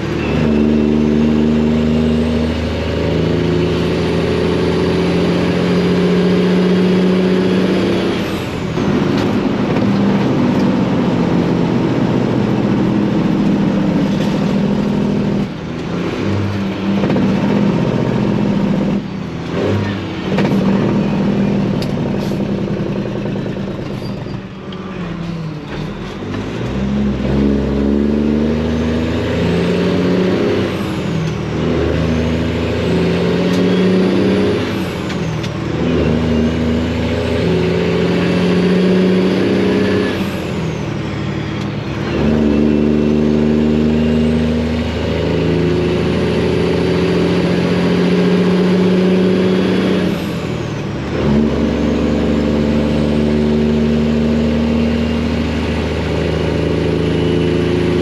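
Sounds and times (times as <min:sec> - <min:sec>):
truck diesel engine accelerating: 0:00.0 - 0:58.0.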